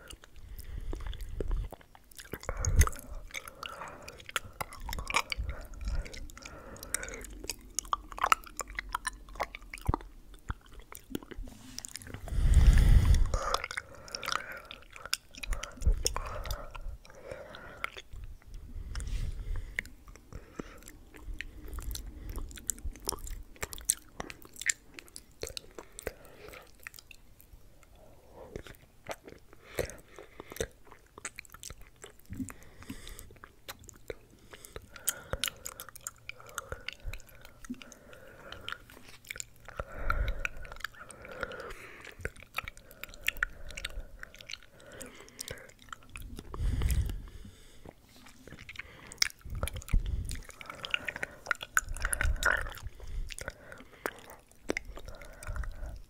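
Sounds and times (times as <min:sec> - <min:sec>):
chewing: 0:00.0 - 0:56.0
wet mouth clicks and smacks: 0:00.0 - 0:56.0.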